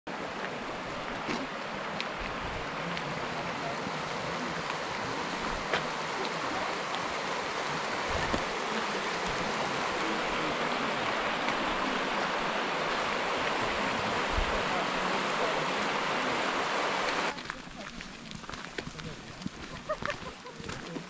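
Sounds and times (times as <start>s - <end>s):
stream rushing over stones: 0.1s - 21.0s.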